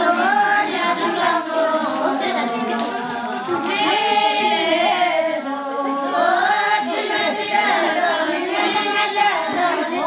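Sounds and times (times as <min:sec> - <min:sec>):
women singing together: 0:00.0 - 0:10.0.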